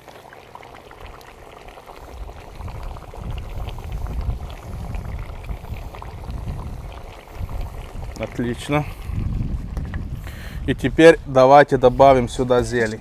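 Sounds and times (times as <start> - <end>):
food crackling in pot: 0.0 - 10.9
wind buffeting microphone: 1.0 - 13.0.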